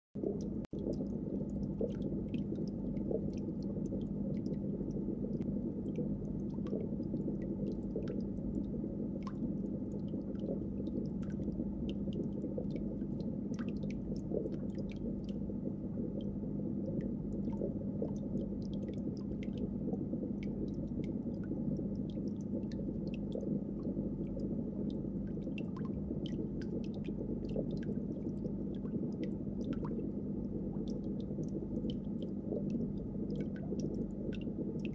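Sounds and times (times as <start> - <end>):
aquarium machinery humming: 0.2 - 34.9.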